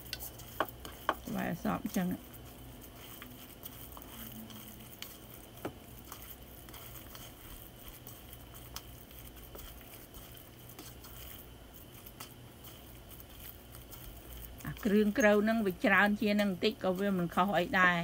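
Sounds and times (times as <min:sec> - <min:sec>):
gloved hand squishing meat: 0:00.0 - 0:18.0
low steady hum: 0:00.0 - 0:18.0.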